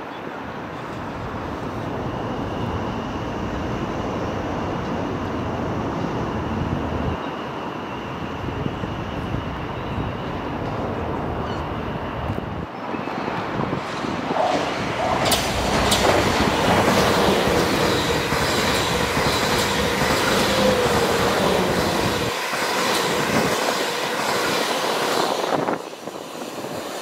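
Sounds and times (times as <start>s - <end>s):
train rumble: 0.4s - 27.0s.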